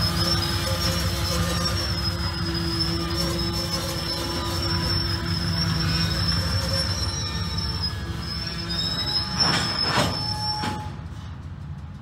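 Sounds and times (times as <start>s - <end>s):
freight cars rattling: 0.0s - 12.0s
train wheels squealing: 0.0s - 12.0s
wheels rumbling on rails: 0.0s - 12.0s.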